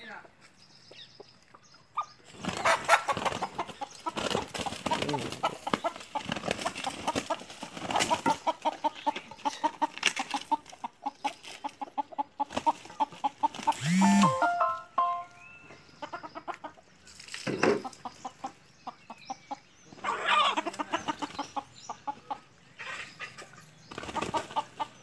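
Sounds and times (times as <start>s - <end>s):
hens clucking: 0.9s - 15.3s, 15.9s - 25.0s.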